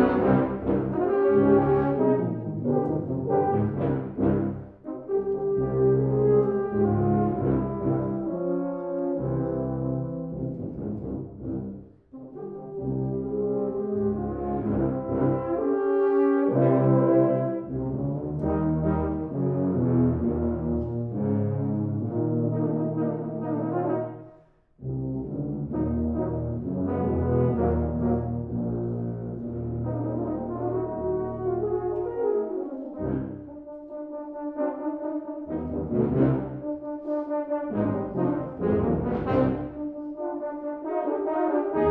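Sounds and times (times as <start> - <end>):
tubas and euphoniums playing chords: 0.0 - 41.9.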